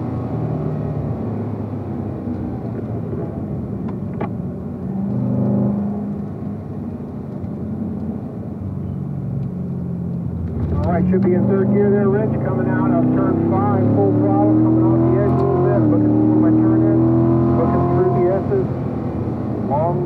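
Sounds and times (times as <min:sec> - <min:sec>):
car engine decelerating: 0:00.0 - 0:20.0.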